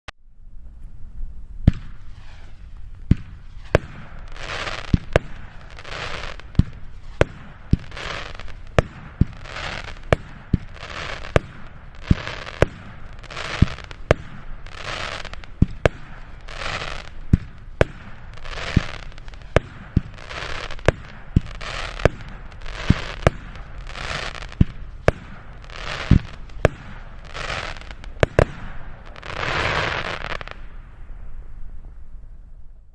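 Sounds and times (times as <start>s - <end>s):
firework bangs: 1.6s - 30.8s
firework hissing bursts: 1.8s - 30.6s.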